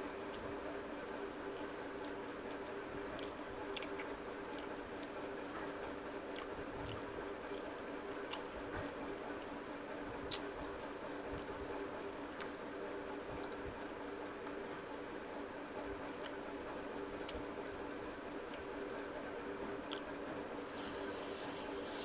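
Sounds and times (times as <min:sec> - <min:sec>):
steady low hum: 0:00.0 - 0:22.0
person chewing: 0:01.5 - 0:14.6, 0:16.1 - 0:19.2, 0:19.8 - 0:22.0.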